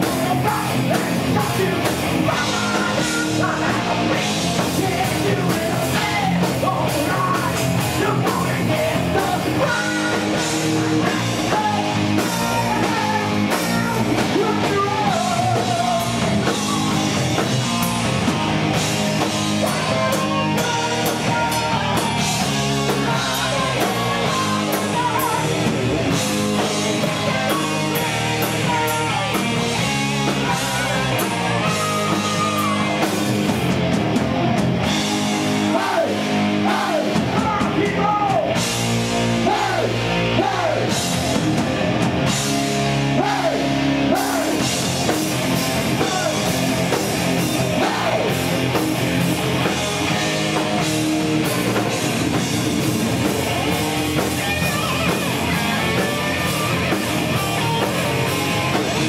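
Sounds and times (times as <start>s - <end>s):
drum kit with cymbals: 0.0s - 59.0s
electric guitar: 0.0s - 59.0s.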